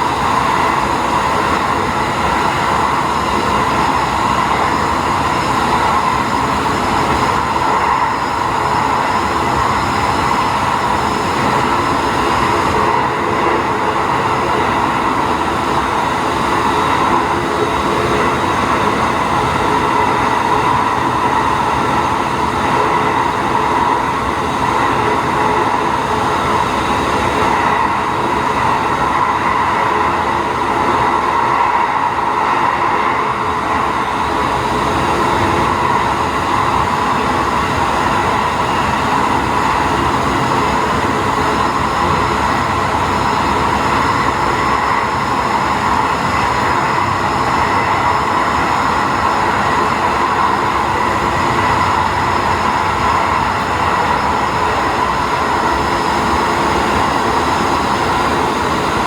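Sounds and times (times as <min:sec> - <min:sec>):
railcar engine and rolling noise: 0:00.0 - 0:59.0.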